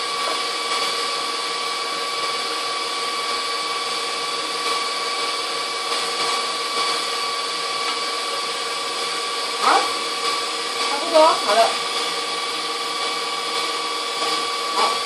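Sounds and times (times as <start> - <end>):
stand mixer motor whine: 0.0 - 15.0.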